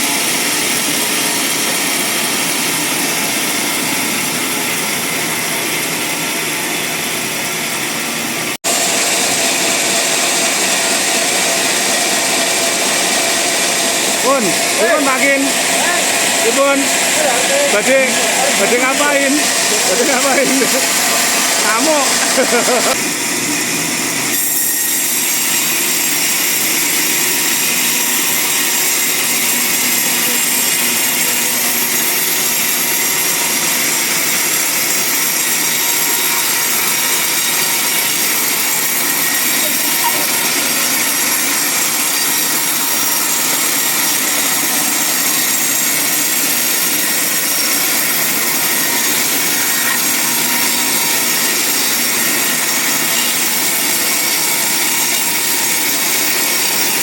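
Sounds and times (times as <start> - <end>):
band saw blade cutting log: 8.6 - 57.0.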